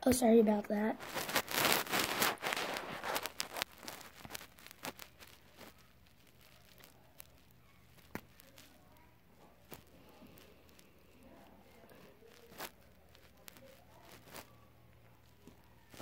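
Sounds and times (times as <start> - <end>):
low room hum: 0.0 - 16.0
faint clicks and taps: 1.2 - 16.0.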